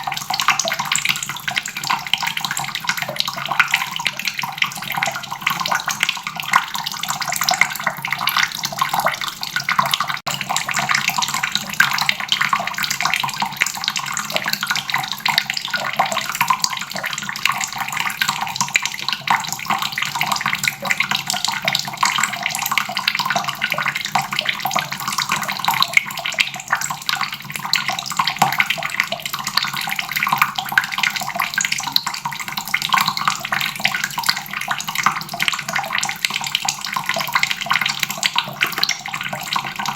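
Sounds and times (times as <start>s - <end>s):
faucet water splashing into basin: 0.0s - 39.9s.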